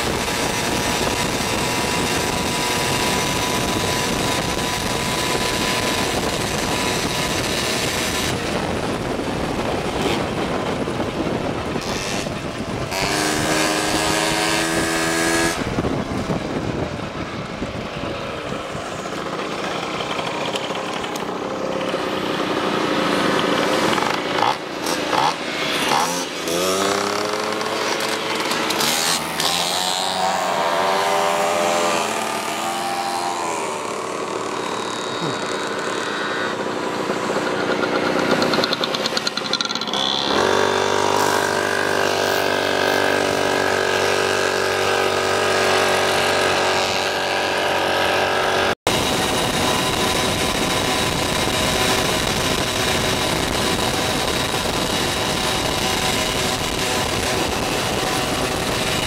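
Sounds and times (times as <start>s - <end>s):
moped engines running: 0.0s - 59.0s
rushing wind noise: 0.0s - 59.0s.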